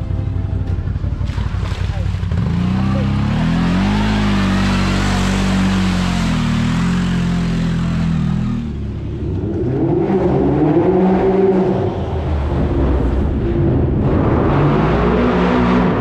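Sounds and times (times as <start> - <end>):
quad engine under throttle: 0.0 - 13.3.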